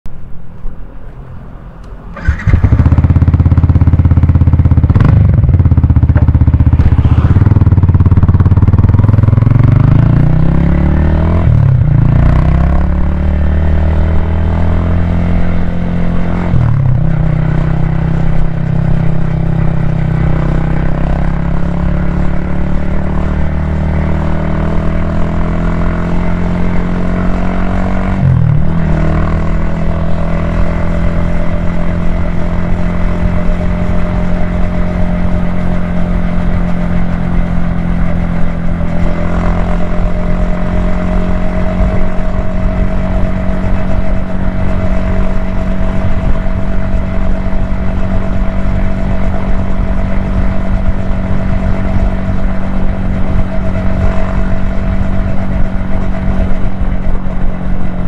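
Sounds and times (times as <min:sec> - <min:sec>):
motorcycle engine running: 0:02.1 - 0:58.0.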